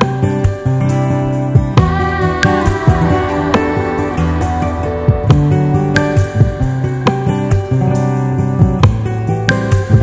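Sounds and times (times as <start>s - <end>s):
acoustic guitar strumming: 0.6s - 9.3s.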